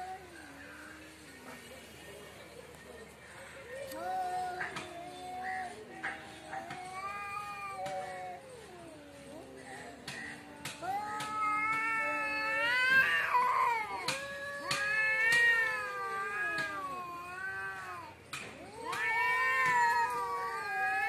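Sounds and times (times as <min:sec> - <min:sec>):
cats yowling: 0:04.0 - 0:21.0.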